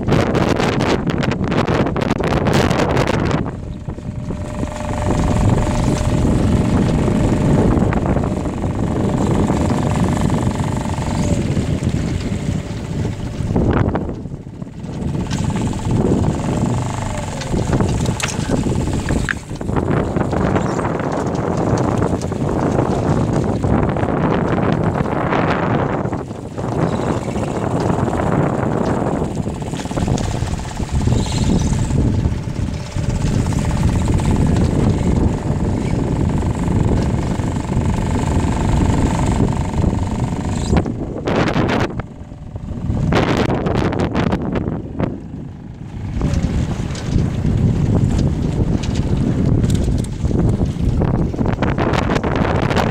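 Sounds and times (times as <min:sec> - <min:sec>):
choppy water: 0:00.0 - 0:52.9
outboard motor running: 0:00.0 - 0:52.9
wind gusting on microphone: 0:00.0 - 0:52.9.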